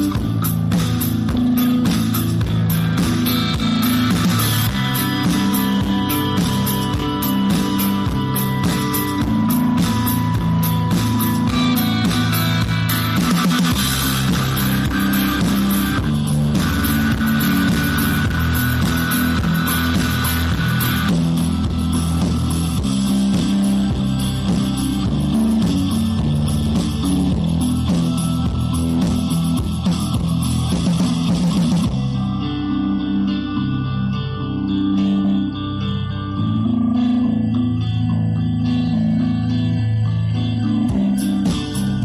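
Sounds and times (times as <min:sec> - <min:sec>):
instrumental music: 0:00.0 - 0:42.0.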